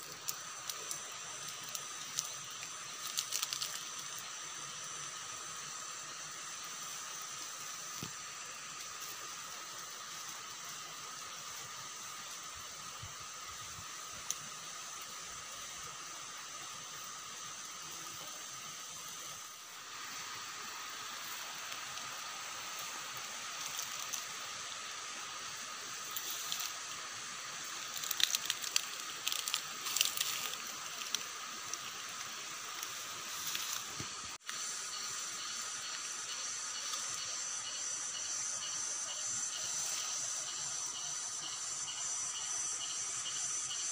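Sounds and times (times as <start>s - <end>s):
insects trilling: 0.0s - 43.9s
low hiss: 0.0s - 43.9s.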